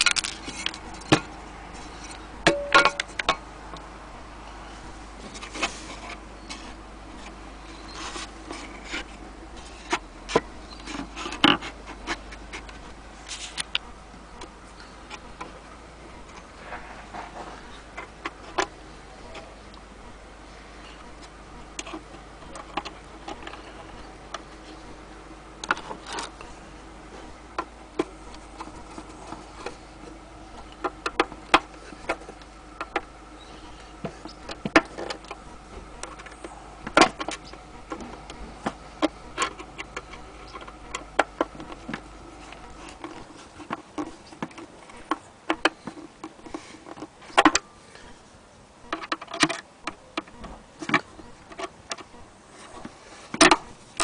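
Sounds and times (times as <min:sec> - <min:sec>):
faint steady hum: 0:00.0 - 0:54.0
gramophone mechanism clicking: 0:05.3 - 0:48.2, 0:48.8 - 0:54.0.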